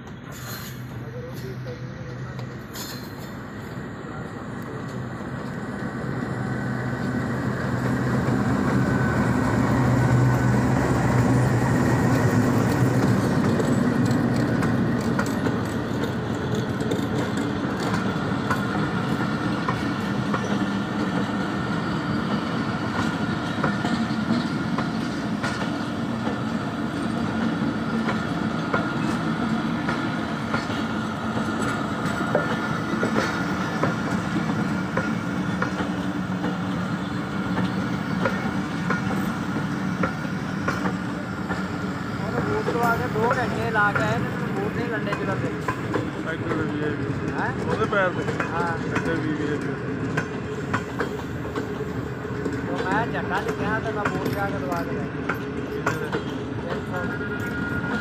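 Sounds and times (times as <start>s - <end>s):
train wheels clickety-clack: 0.0s - 3.8s, 4.5s - 58.0s
locomotive engine droning: 0.2s - 58.0s.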